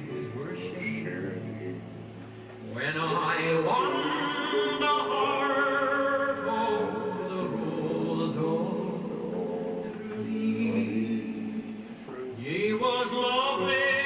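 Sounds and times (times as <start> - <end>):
musical accompaniment: 0.0 - 14.0
operatic singing: 2.7 - 14.0.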